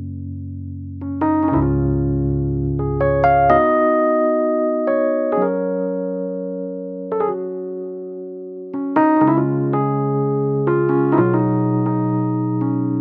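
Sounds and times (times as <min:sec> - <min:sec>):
slow electric piano chords: 0:00.0 - 0:13.0.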